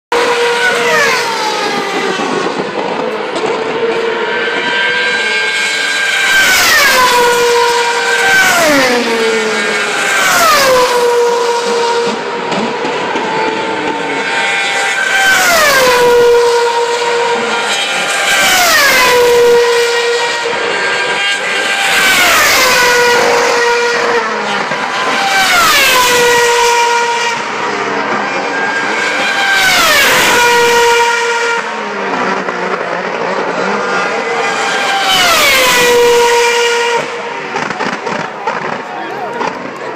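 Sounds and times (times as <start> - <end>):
racing cars passing at full speed: 0.1 - 39.9.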